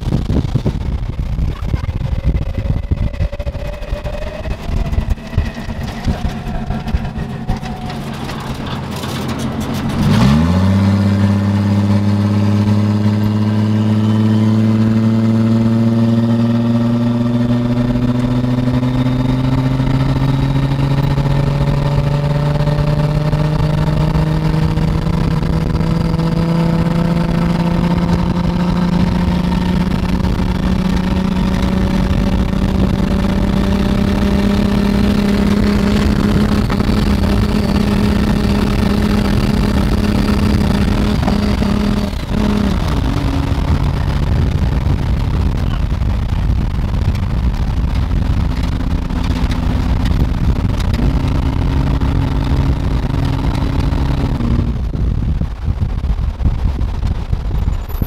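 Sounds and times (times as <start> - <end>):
car engine starting and running: 0.0 - 58.0.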